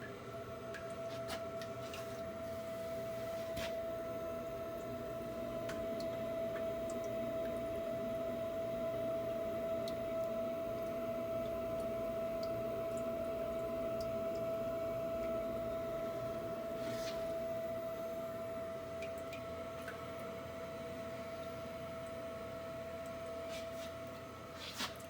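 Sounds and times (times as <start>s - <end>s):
boiler high-pitched whine: 0.0s - 25.0s.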